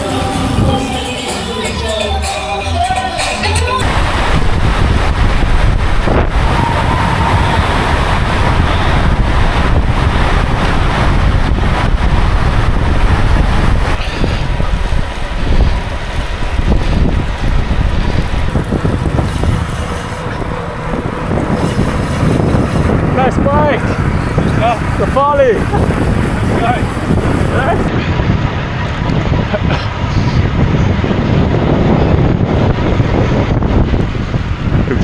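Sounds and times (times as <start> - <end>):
wind buffeting microphone: 3.6 - 35.0.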